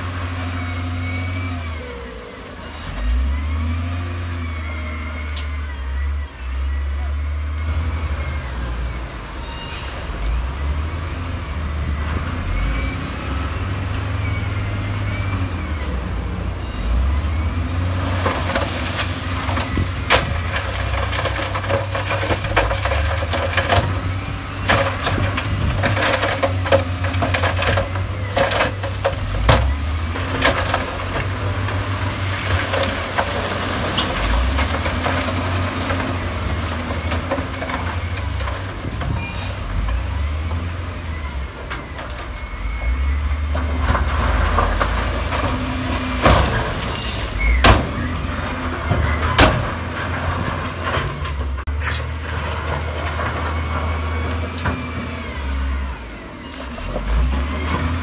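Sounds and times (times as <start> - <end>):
diesel machinery engine rumble: 0.0 - 58.0.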